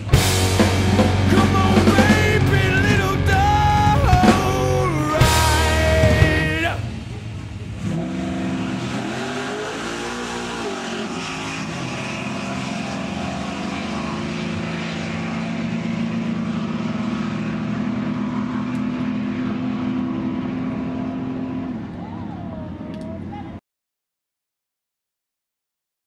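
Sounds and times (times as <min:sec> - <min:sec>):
cars accelerating at full throttle: 0:00.0 - 0:23.3.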